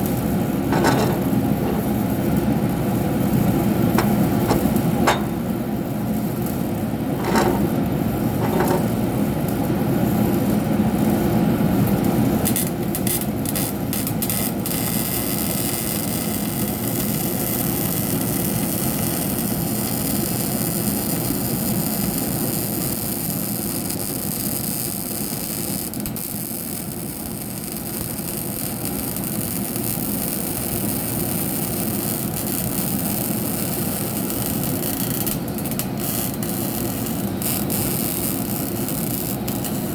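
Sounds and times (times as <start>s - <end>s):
welding arc hissing and crackling: 0.0s - 39.9s.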